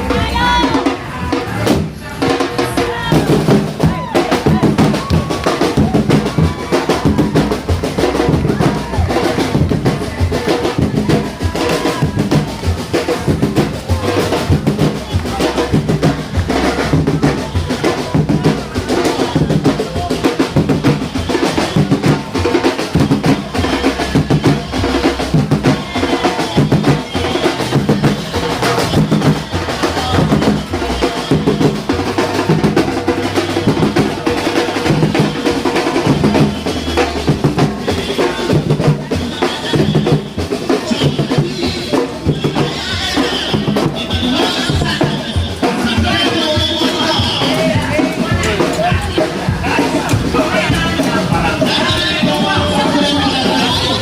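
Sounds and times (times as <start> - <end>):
marching drums with rolls: 0.0 - 54.0.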